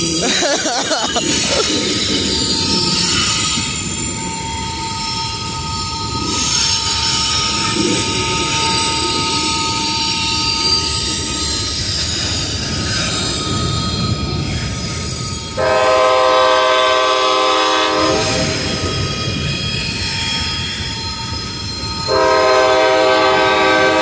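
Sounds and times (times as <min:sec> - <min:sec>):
train cars rumbling: 0:00.0 - 0:24.0
train wheels squealing on rails: 0:00.0 - 0:24.0.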